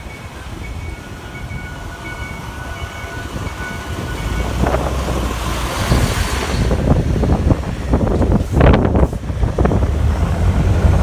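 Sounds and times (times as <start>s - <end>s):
truck diesel engine rumble: 0.0s - 11.0s
wind buffeting microphone: 0.4s - 11.0s.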